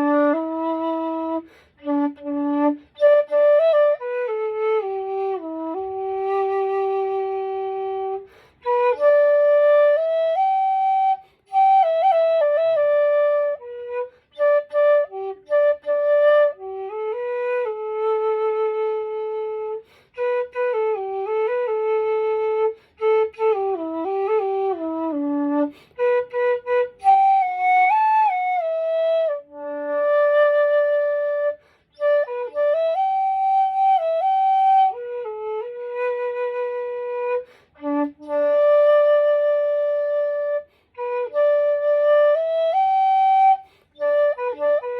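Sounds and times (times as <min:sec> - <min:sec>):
bamboo flute melody: 0:00.0 - 0:44.9.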